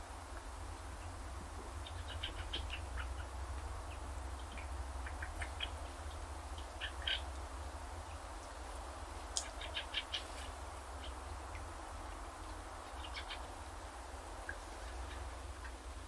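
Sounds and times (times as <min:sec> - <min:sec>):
small birds chirping: 0:00.9 - 0:08.6, 0:09.2 - 0:15.9.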